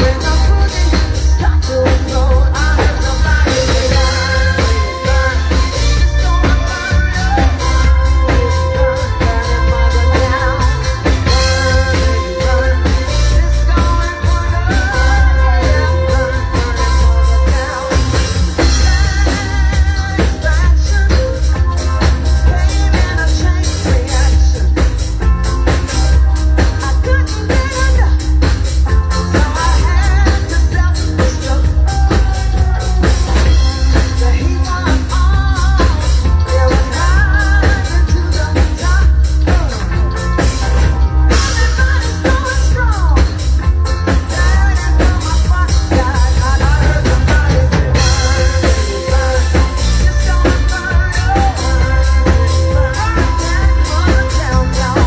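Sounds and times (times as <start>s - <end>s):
drum kit beat: 0.0s - 55.0s
heavy bass: 0.0s - 55.0s
person singing: 0.0s - 55.0s.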